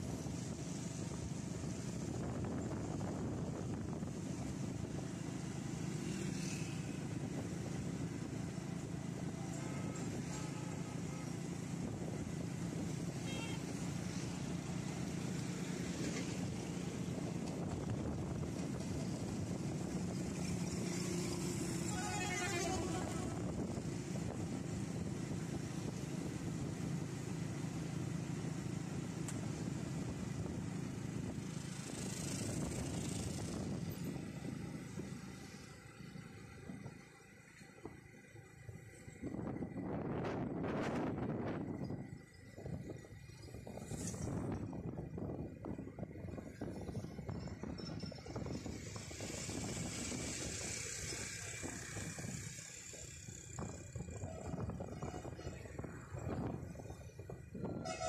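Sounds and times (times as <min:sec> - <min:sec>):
vehicle engine and tyre rumble: 0:00.0 - 0:58.0.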